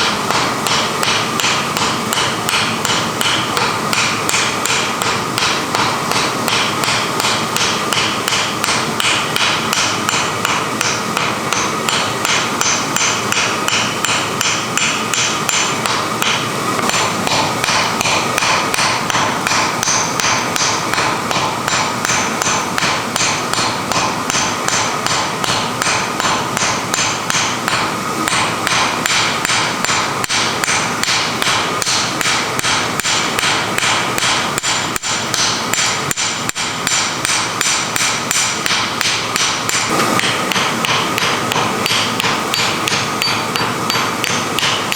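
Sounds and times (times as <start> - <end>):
hammer striking iron on anvil: 0.0 - 44.9.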